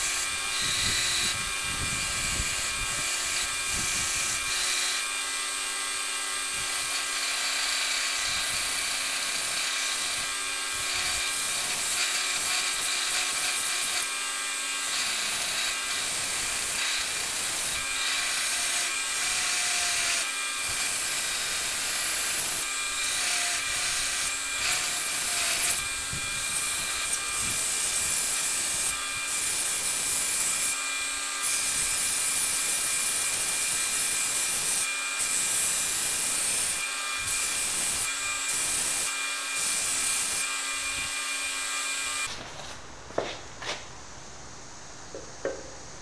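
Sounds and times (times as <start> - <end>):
belt grinder running: 0.0 - 42.3
wooden handle sanding hiss: 0.0 - 45.8.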